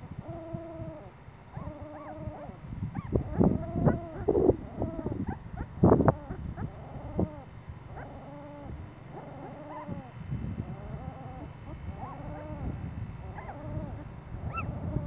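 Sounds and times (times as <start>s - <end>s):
puppies whimpering: 1.6s - 10.1s, 10.8s - 12.7s, 13.3s - 15.0s.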